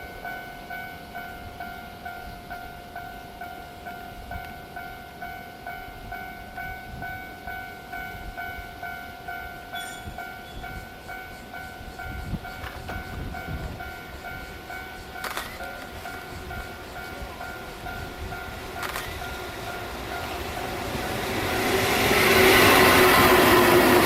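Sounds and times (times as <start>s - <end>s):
level-crossing alarm ringing: 0.0s - 24.0s
train rumbling: 0.0s - 24.0s.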